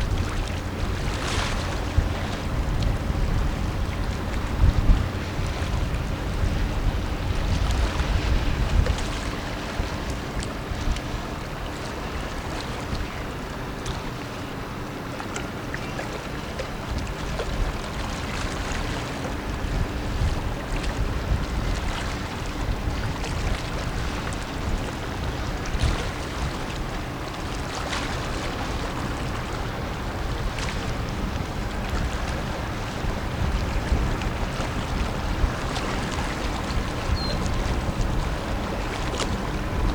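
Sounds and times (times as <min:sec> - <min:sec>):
low drone of boat engines: 0:00.0 - 0:39.9
wind buffeting microphone: 0:00.0 - 0:39.9.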